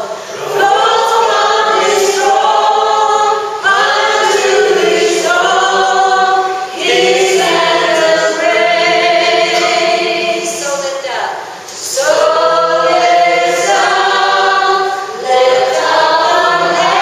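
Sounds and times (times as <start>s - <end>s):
group singing without instruments: 0.0s - 10.9s, 11.5s - 17.0s.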